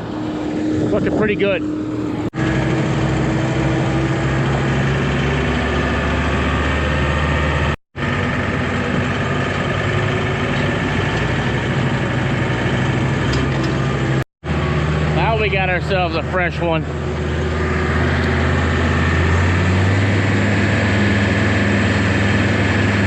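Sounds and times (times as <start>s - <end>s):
diesel machinery engine running: 0.0s - 23.0s.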